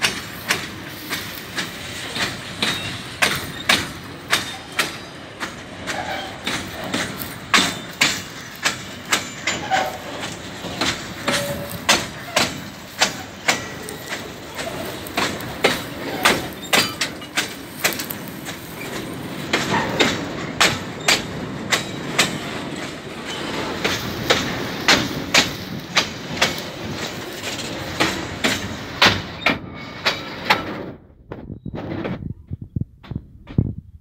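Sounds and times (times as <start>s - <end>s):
train wheels clacking over rail joint: 0.0s - 31.1s
rumble of wheels on rail: 0.0s - 34.0s.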